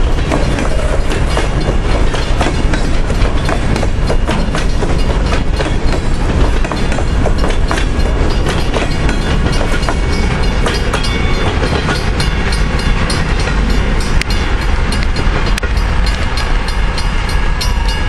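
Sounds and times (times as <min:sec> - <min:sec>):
train rumble: 0:00.0 - 0:18.0
train wheels clicking over rail joints: 0:00.0 - 0:18.0.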